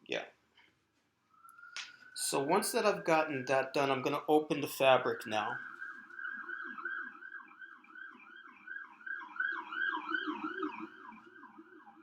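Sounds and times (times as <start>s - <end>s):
emergency siren yelping: 1.3s - 12.0s.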